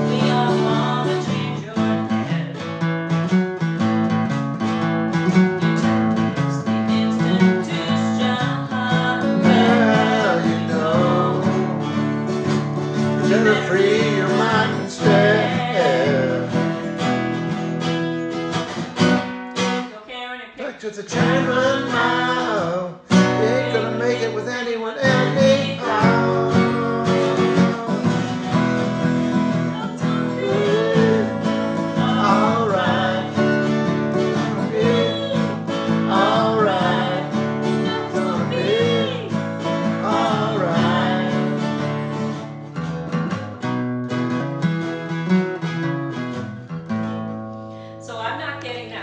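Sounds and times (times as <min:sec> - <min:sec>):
guitar music with bending notes: 0:00.0 - 0:20.0, 0:21.1 - 0:49.0.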